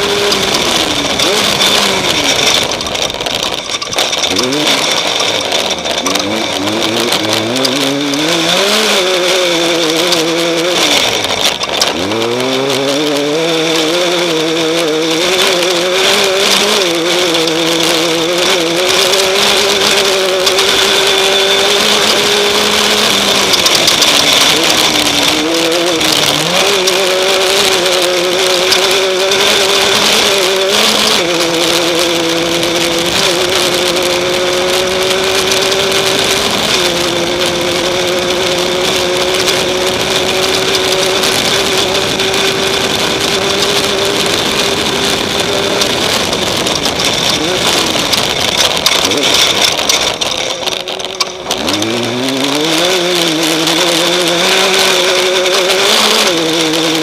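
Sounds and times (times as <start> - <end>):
race vehicle engine revving: 0.0 - 57.0
wind and road noise: 0.0 - 57.0.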